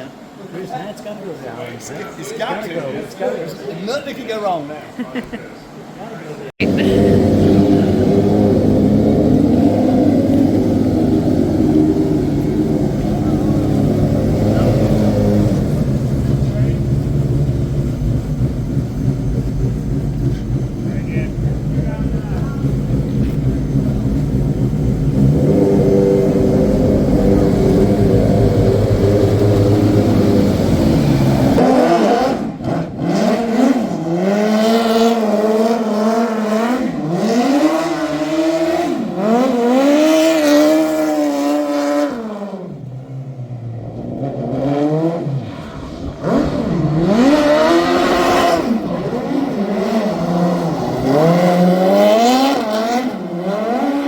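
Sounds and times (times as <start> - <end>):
truck engines revving: 5.7 - 54.0.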